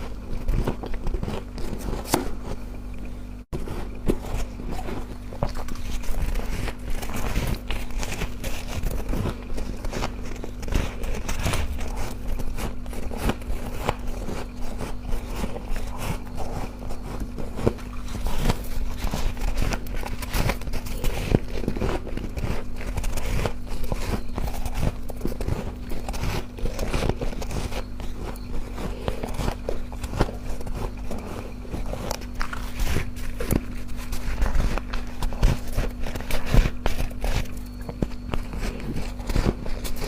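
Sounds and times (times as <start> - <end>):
chewing ice crunching: 3.6 - 40.0.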